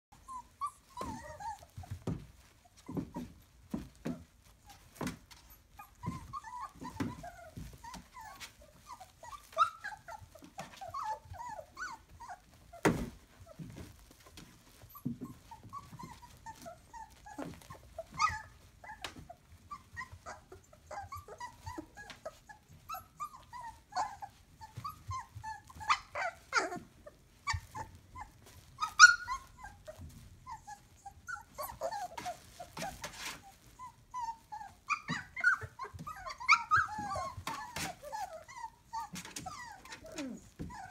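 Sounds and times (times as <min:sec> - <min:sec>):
puppies squeaking and whimpering: 0:00.1 - 0:40.9.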